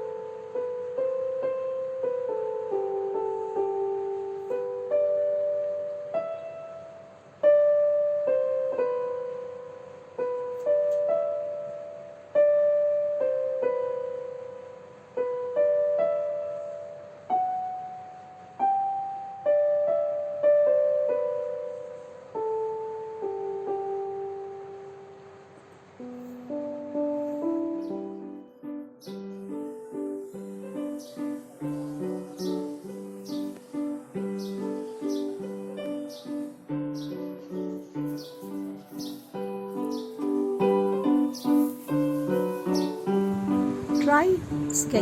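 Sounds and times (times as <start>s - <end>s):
slow piano melody: 0.0s - 45.0s.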